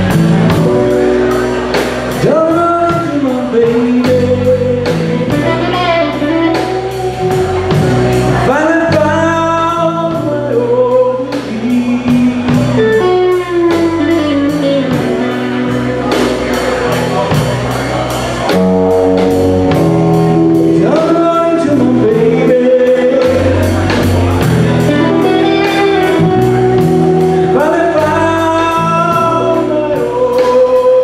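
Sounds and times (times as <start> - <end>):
bass: 0.0 - 31.0
guitar: 0.0 - 31.0
person singing: 0.0 - 31.0.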